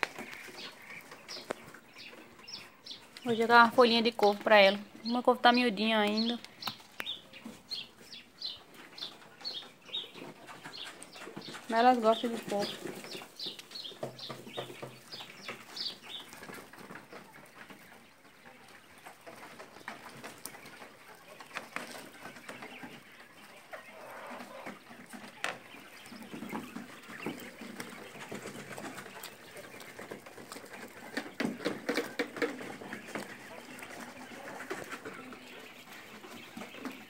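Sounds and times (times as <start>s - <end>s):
quails calling and chirping: 0.0s - 37.0s.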